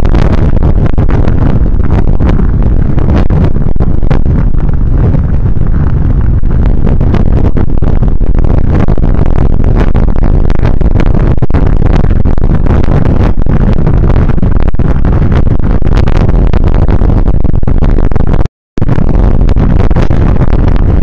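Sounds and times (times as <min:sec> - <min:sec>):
road rumble: 0:00.0 - 0:17.2
wind buffeting on microphone: 0:00.0 - 0:21.0.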